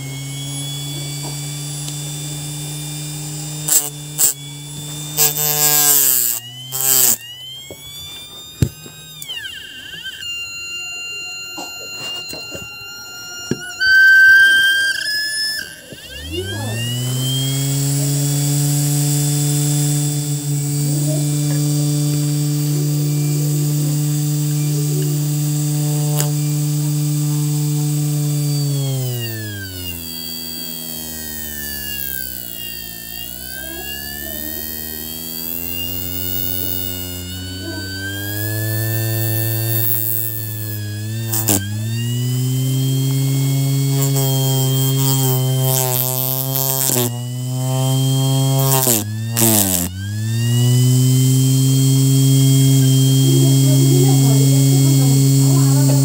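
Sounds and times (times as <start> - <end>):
motor high-pitched whine: 0.0 - 56.0
motor hum rising in pitch: 0.0 - 56.0.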